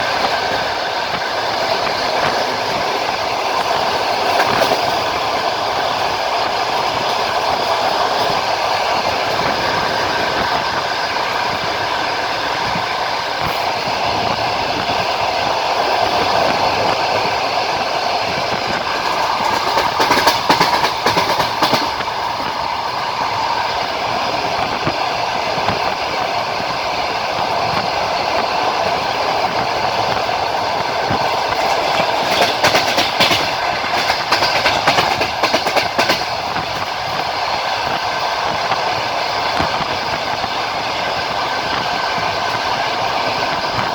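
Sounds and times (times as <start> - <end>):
train wheels clacking over rails: 0.0 - 43.9.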